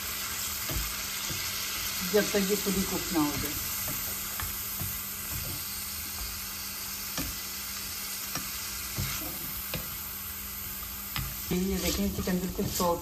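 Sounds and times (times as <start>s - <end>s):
chicken sizzling in oil: 0.0s - 13.0s
spatula scraping pan: 0.3s - 13.0s.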